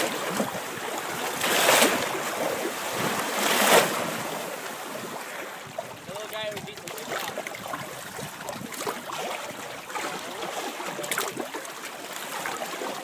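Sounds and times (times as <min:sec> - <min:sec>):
water lapping against boat: 0:00.0 - 0:13.0.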